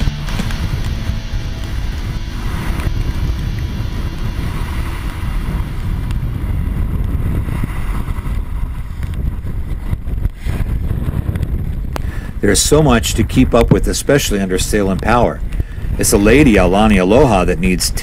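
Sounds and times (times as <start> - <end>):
waves breaking along hull: 0.0 - 18.0
wind buffeting microphone: 0.0 - 18.0.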